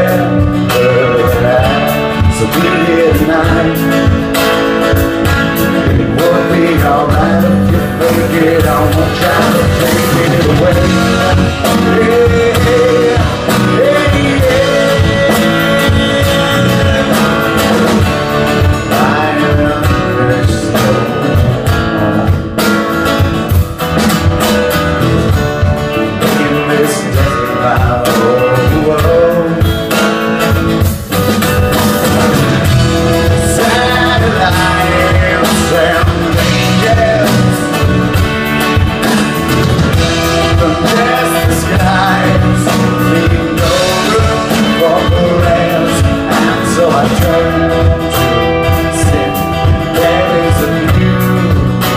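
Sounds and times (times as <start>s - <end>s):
person singing: 0.0s - 23.0s, 25.6s - 31.1s, 31.7s - 51.9s
drums: 0.0s - 51.9s
guitar: 0.0s - 51.9s.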